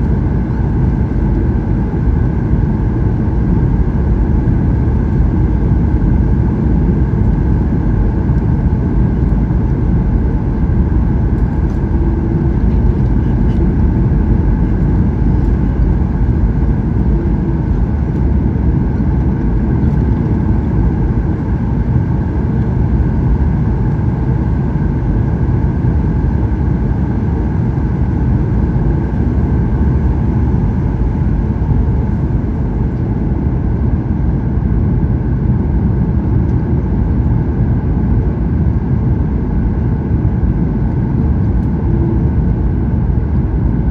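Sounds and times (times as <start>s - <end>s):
airplane cabin airflow and engine rush: 0.0s - 43.9s
faint steady hum: 0.0s - 43.9s.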